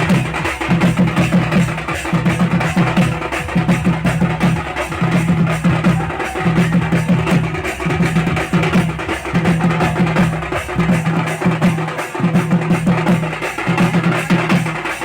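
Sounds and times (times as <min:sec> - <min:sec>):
drum-led music: 0:00.0 - 0:15.0.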